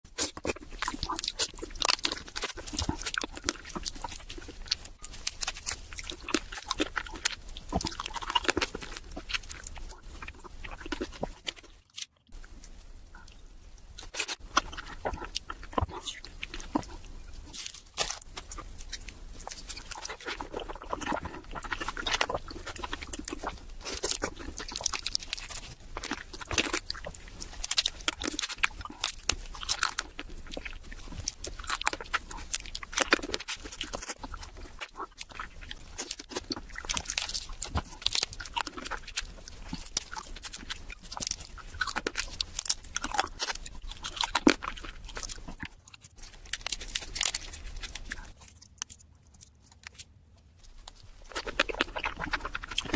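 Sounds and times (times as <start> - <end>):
crab shell crunching: 0.1 - 52.9
wet chewing: 0.1 - 52.9.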